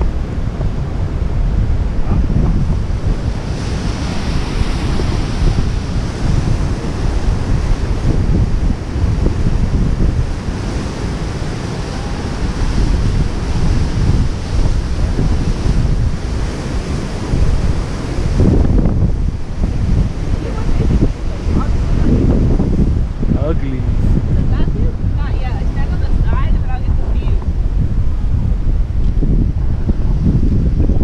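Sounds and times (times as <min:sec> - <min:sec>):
waterfall rushing: 0:00.0 - 0:27.3
wind buffeting microphone: 0:00.0 - 0:31.0.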